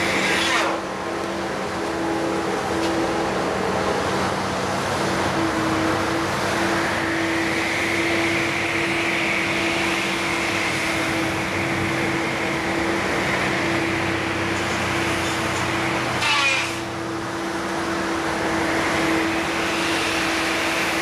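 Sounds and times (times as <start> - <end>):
high-pitched whine: 0.0 - 21.0
machine engine humming: 0.0 - 21.0.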